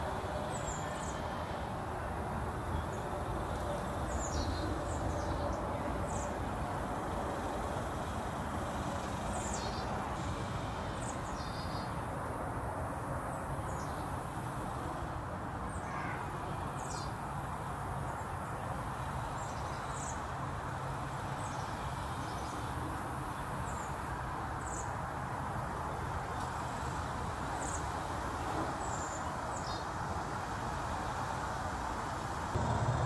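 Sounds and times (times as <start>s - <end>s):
low rushing background noise: 0.0s - 33.0s.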